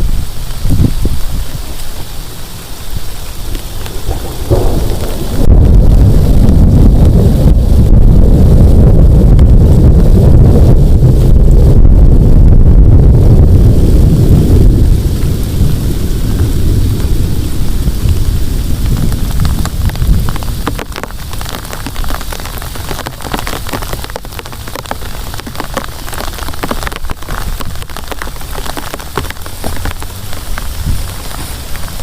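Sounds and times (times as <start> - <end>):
heavy rain pattering: 0.0 - 32.0
low rumble of thunder: 3.0 - 32.0.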